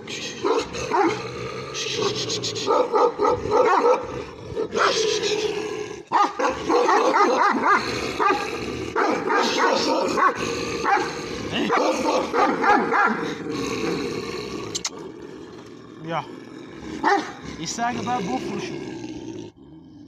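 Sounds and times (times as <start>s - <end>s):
dogs barking and snarling: 0.0s - 20.0s.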